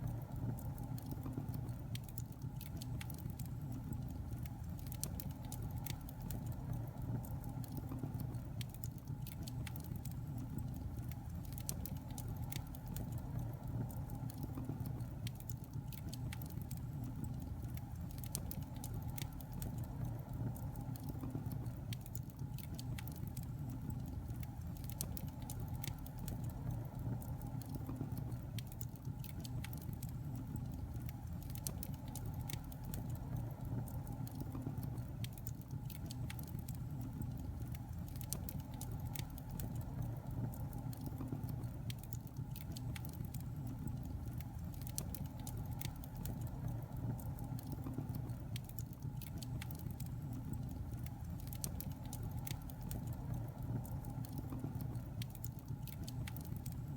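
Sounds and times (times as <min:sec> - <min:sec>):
fire crackling and popping: 0:00.0 - 0:56.9
rumble of fire flames: 0:00.0 - 0:56.9.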